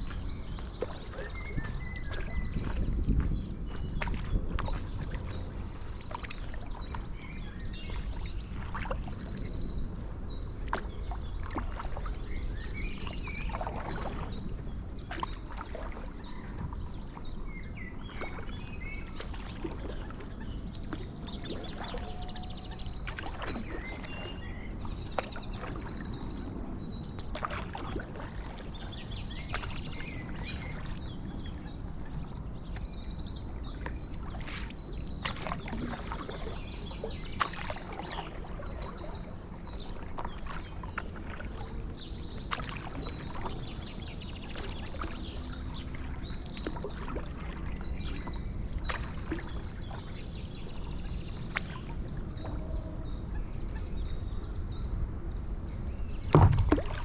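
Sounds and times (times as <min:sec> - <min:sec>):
paddle splashing in water: 0:00.0 - 0:54.0, 0:56.2 - 0:57.0
small birds singing: 0:00.0 - 0:57.0
wind rumble on microphone: 0:00.0 - 0:57.0.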